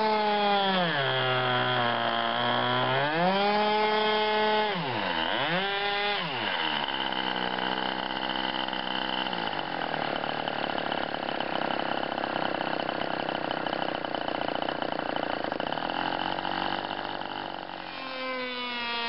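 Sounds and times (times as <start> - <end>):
model aircraft engine buzzing: 0.0 - 19.0.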